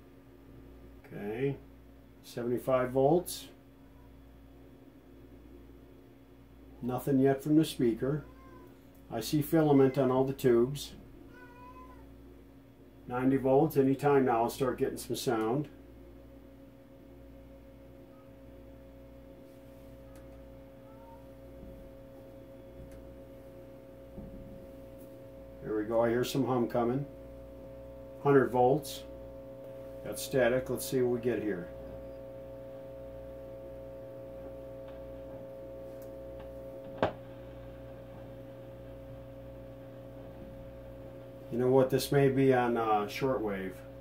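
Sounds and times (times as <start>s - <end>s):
tube radio electrical hum: 0.0s - 44.0s.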